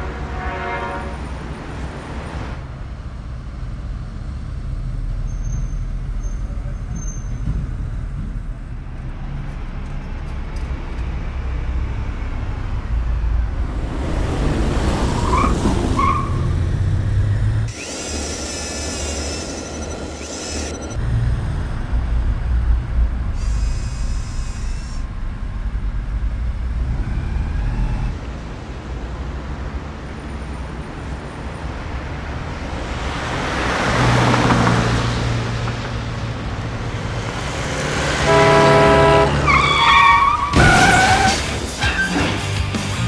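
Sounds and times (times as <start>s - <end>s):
city traffic rumble: 0.0s - 43.0s.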